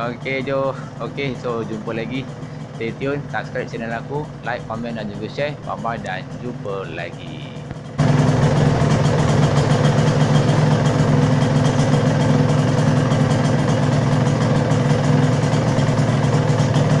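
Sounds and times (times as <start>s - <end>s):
two-stroke engine idling: 0.0s - 17.0s.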